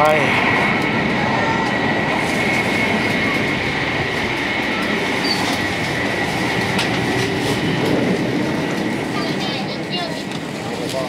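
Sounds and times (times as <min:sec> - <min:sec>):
train running noise inside car: 0:00.0 - 0:11.0.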